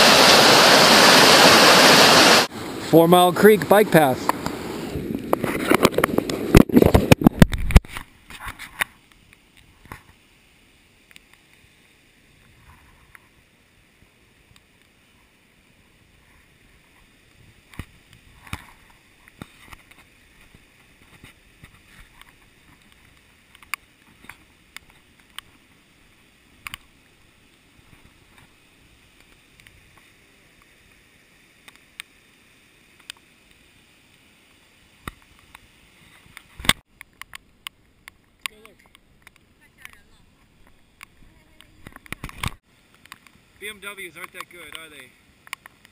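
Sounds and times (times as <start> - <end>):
creek water rushing: 0.0 - 36.8.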